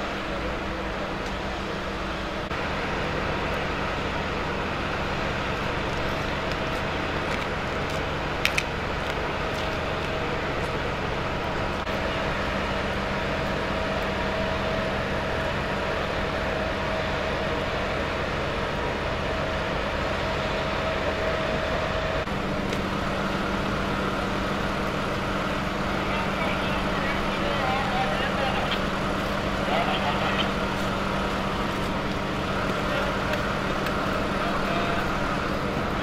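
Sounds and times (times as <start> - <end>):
heavy vehicle engine running: 0.0 - 36.0
steady whine: 0.0 - 36.0.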